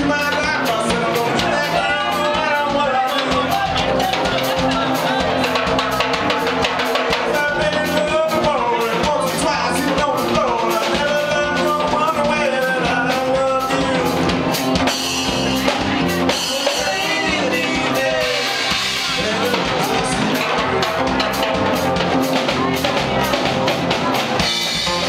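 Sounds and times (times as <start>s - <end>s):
bass and electric guitars: 0.0s - 25.0s
drum kit beat: 0.0s - 25.0s
person singing: 0.0s - 25.0s.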